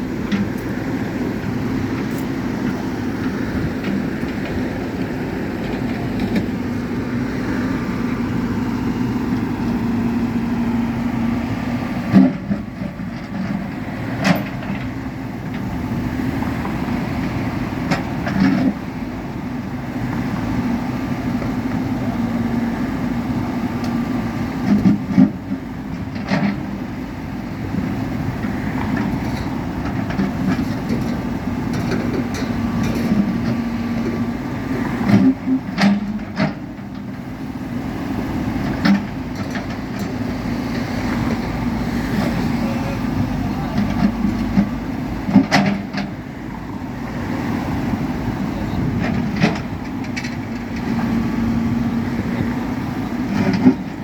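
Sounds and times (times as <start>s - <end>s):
heavy engine humming: 0.0s - 54.0s.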